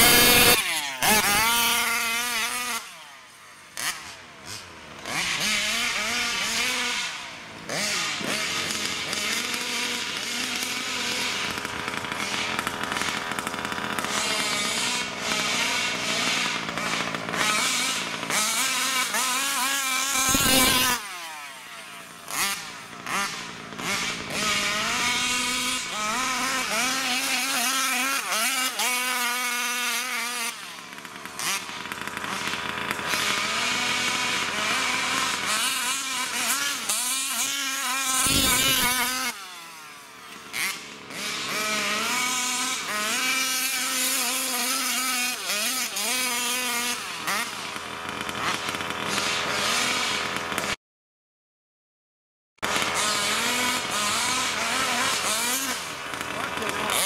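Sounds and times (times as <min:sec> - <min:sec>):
two-stroke engine revving: 0:00.0 - 0:50.8, 0:52.6 - 0:57.0.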